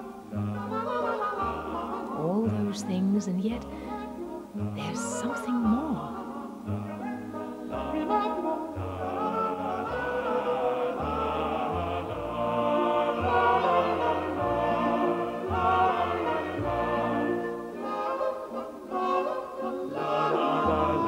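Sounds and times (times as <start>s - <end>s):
orchestral music with singing voices: 0.0s - 21.0s.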